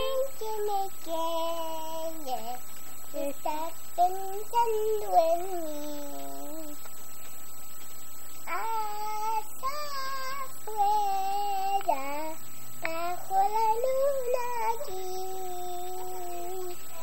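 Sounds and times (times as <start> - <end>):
girl singing unaccompanied: 0.0 - 6.9, 8.4 - 17.0.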